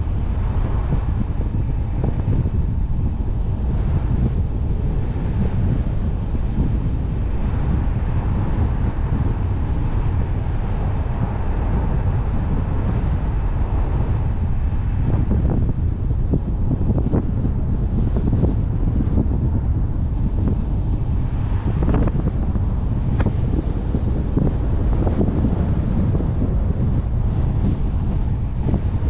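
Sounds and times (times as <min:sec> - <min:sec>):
tyre and road rumble: 0:00.0 - 0:29.0
wind buffeting microphone: 0:00.0 - 0:29.0.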